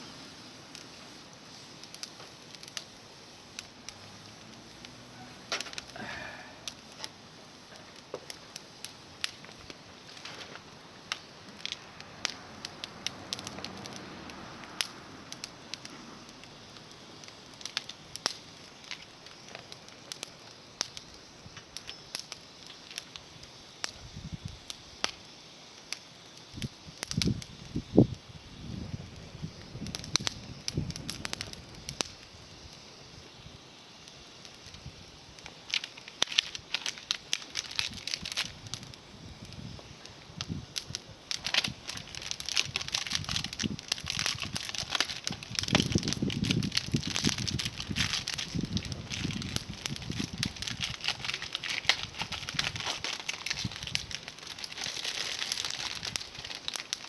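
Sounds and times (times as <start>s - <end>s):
twig bonfire crackling: 0.0s - 57.0s.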